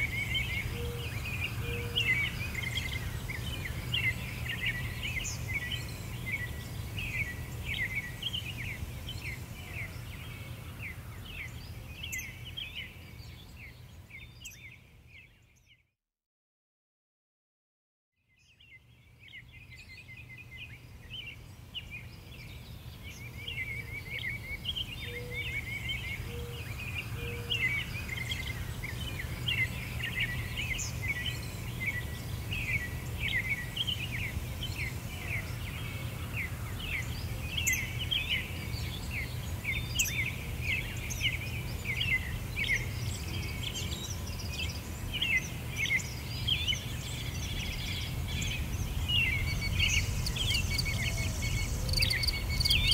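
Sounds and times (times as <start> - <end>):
small birds chirping: 0.0 - 15.9, 18.3 - 52.9.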